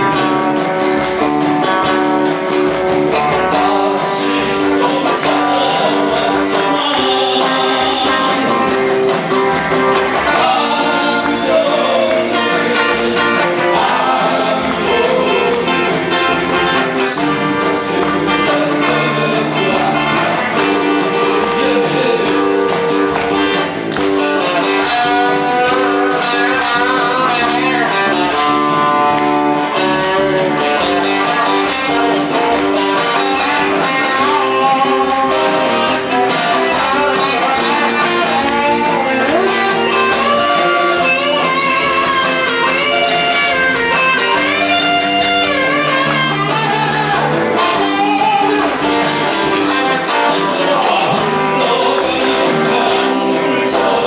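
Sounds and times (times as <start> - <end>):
guitar: 0.0 - 54.0
live pop band playing: 0.0 - 54.0.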